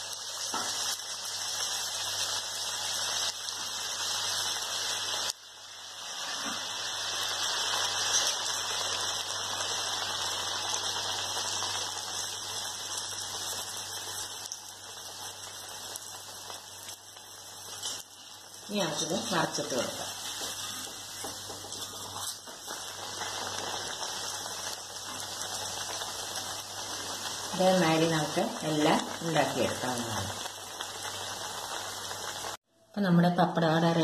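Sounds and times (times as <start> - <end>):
batter deep-frying in hot oil: 0.0 - 32.7.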